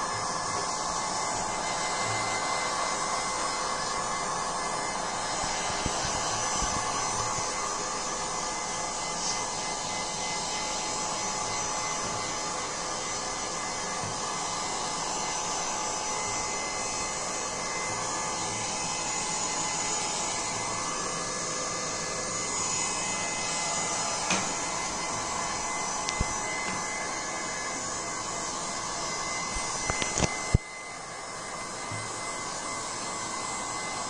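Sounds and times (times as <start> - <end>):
hot-air gun blowing: 0.0 - 32.7.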